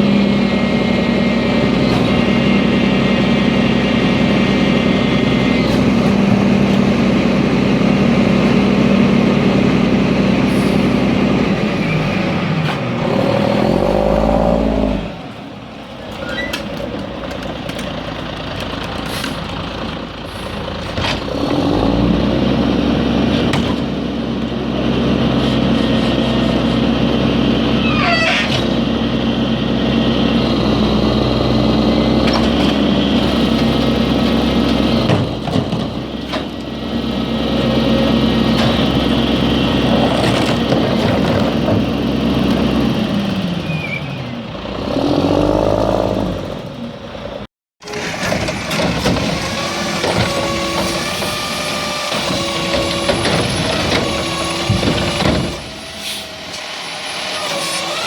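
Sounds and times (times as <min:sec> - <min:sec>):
diesel garbage truck engine: 0:00.0 - 0:58.0.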